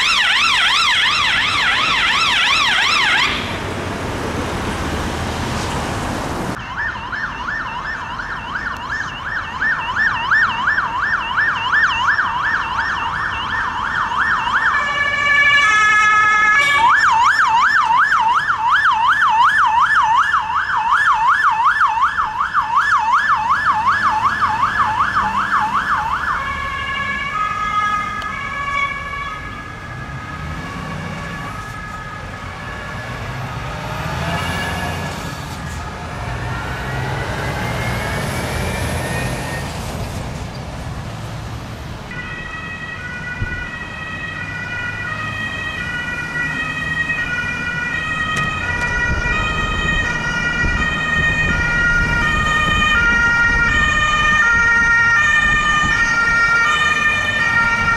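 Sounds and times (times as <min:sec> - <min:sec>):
ambulance siren: 0:00.0 - 0:05.0, 0:06.3 - 0:39.9, 0:42.0 - 0:57.9
vehicle engine and road noise: 0:00.0 - 0:57.9.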